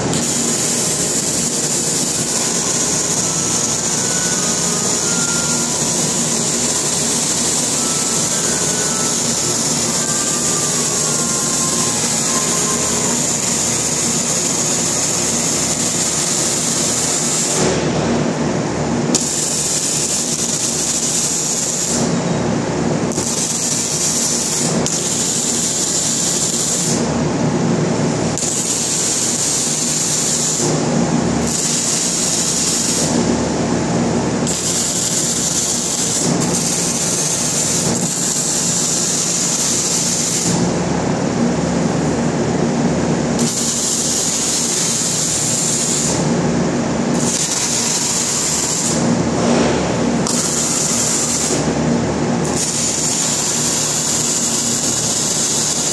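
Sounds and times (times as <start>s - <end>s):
welding arcs crackling and hissing: 0.0s - 18.4s, 19.1s - 22.3s, 23.0s - 27.2s, 28.3s - 40.8s, 43.3s - 55.9s
workshop noise: 0.0s - 55.9s.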